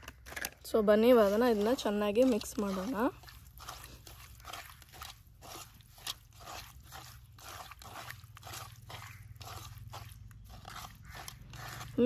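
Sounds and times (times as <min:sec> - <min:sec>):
wet mixing strokes in bowl: 0:00.7 - 0:12.0.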